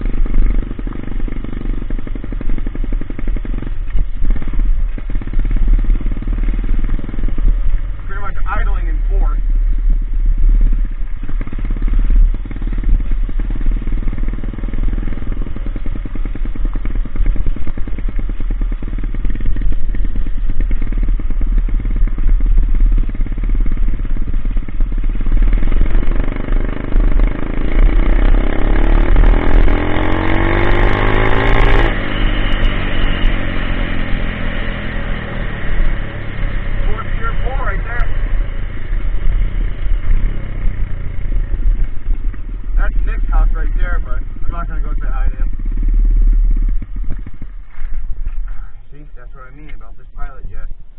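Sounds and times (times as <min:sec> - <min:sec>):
pit bike engine revving: 0:00.0 - 0:50.8.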